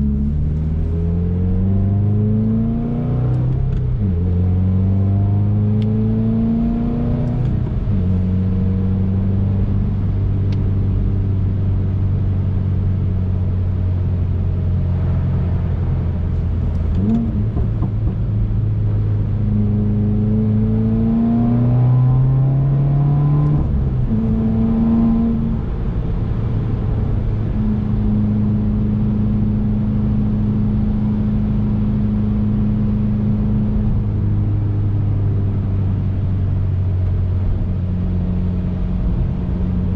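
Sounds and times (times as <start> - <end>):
car engine while driving: 0.0 - 39.9
road noise: 0.0 - 39.9.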